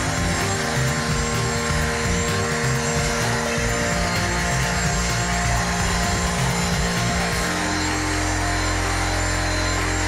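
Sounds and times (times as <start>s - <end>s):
background music: 0.0s - 10.0s
handheld vacuum whining: 0.0s - 10.0s.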